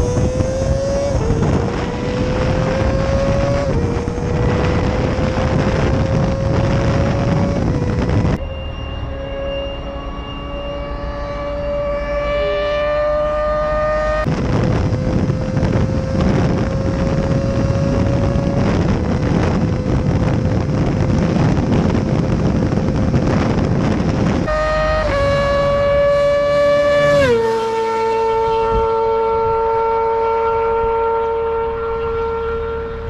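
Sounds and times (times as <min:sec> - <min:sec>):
motorcycle engine at high revs: 0:00.0 - 0:08.4, 0:09.9 - 0:33.0
heavy wind rush: 0:00.0 - 0:33.0.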